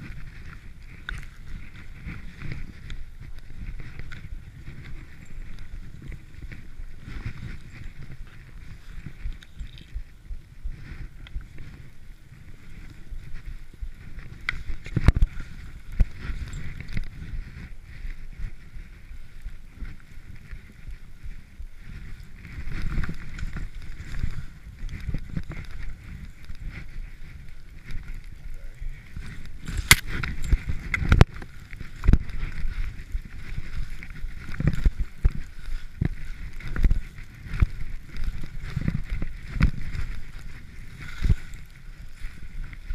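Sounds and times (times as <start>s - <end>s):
skis rumbling through powder snow: 0.0s - 42.9s.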